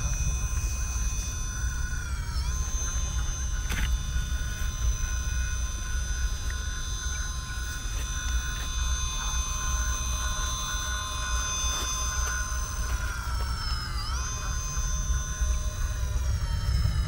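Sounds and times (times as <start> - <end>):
electric motor whining: 0.0 - 17.0
low rumble: 0.0 - 17.0.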